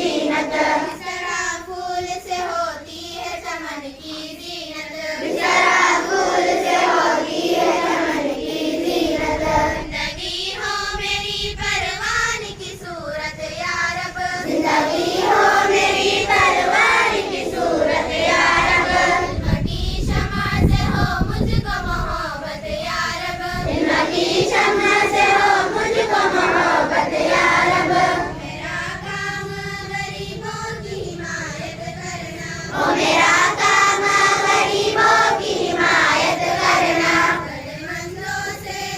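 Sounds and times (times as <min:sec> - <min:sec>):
children singing in unison: 0:00.0 - 0:38.9.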